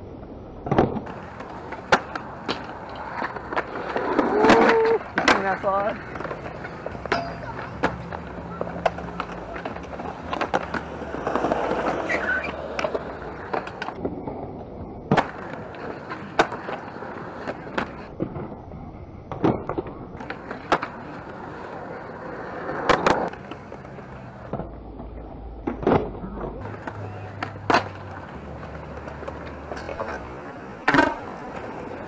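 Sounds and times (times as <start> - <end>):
skateboard wheels rolling on concrete: 0.0 - 32.0
skateboard wooden clacks: 0.6 - 14.4, 15.1 - 18.6, 19.3 - 32.0.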